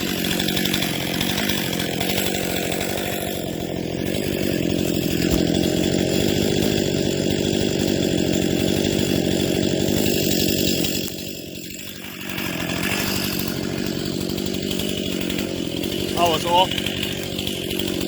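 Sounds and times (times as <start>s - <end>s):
chainsaw cutting tree trunk: 0.0s - 18.0s.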